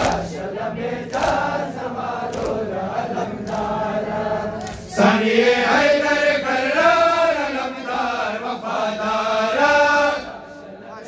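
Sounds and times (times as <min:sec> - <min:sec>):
lead reciter on a microphone: 0:00.0 - 0:11.0
men chanting a lament: 0:00.0 - 0:11.0.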